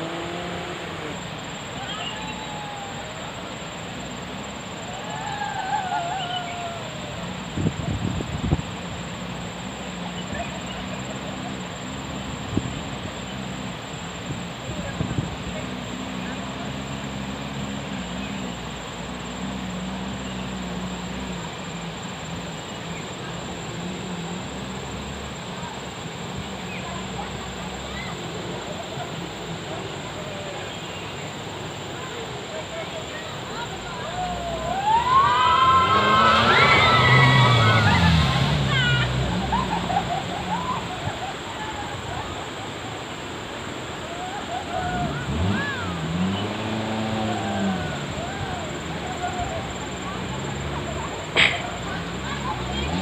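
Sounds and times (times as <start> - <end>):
distant voices shouting: 0.0 - 53.0
engine running under load: 0.0 - 53.0
tyres and road noise: 0.0 - 53.0
water rushing and splashing: 0.0 - 53.0.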